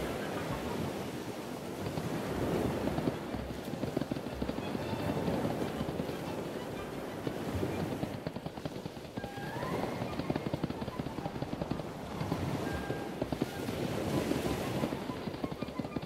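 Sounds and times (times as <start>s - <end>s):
galloping hoofbeats: 0.0s - 16.0s.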